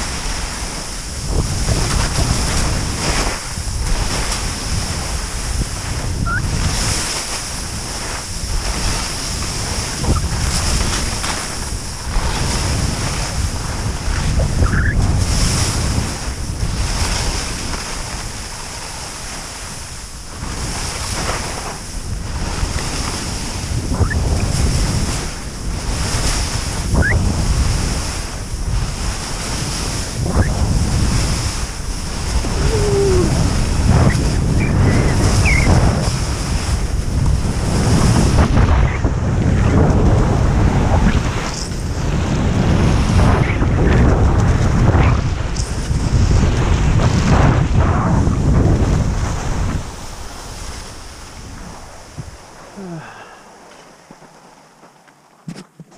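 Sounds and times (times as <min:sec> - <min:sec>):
wind noise on microphone: 0:00.0 - 0:54.5
skis scraping over snow: 0:00.0 - 0:55.9.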